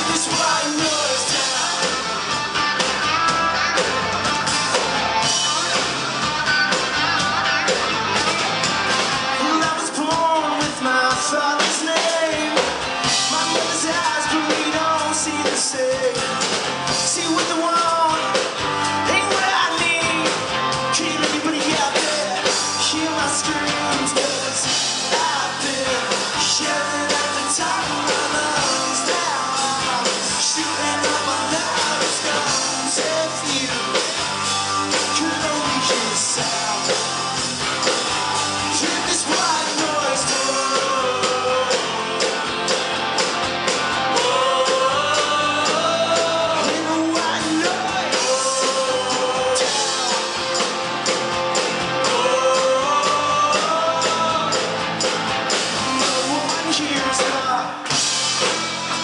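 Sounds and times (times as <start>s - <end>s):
man singing: 0.0s - 2.4s, 9.3s - 37.4s, 38.6s - 43.3s, 44.0s - 58.0s
electric guitar: 0.0s - 59.0s
live rock band playing: 0.0s - 59.0s.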